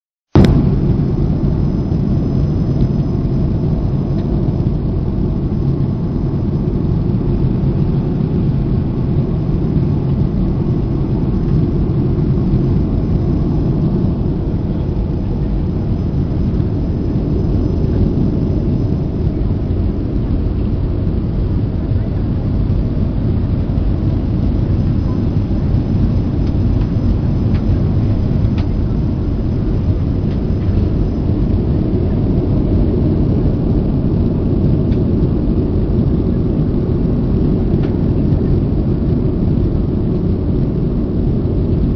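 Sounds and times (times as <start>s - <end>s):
airliner cabin engine noise: 0.3s - 41.9s.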